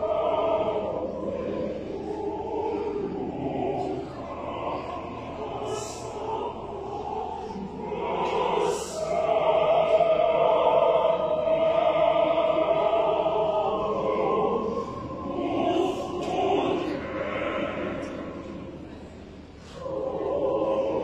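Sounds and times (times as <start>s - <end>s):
mixed choir singing: 0.0s - 21.0s.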